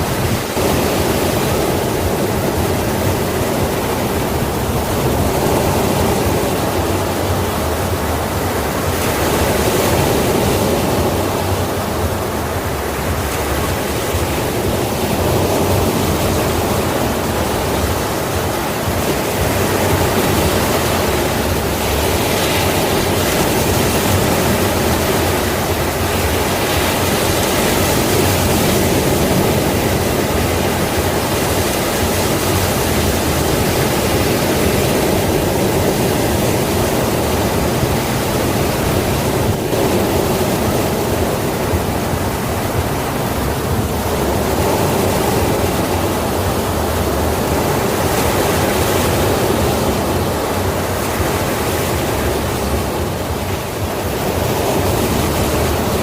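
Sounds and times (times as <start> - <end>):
sea waves washing: 0.0 - 56.0.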